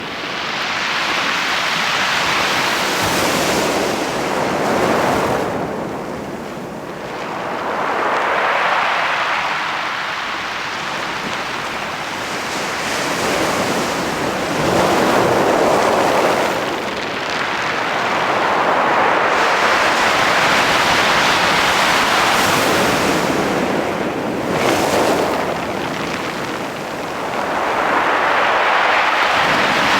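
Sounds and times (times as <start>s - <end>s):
waves washing over pebbles: 0.1s - 29.9s.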